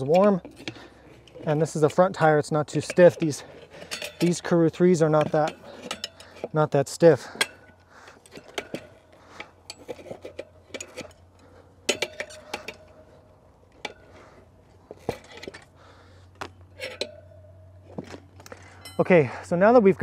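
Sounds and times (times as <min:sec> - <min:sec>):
tire spoons clinking on wheel: 0:00.0 - 0:19.5.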